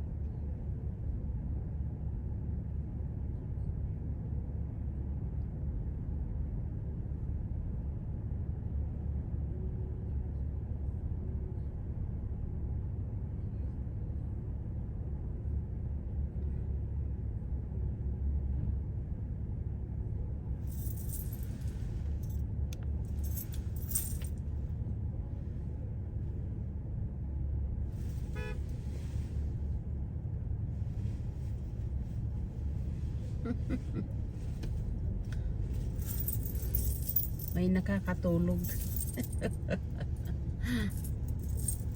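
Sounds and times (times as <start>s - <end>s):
vehicle rumbling from inside: 0.0s - 41.9s.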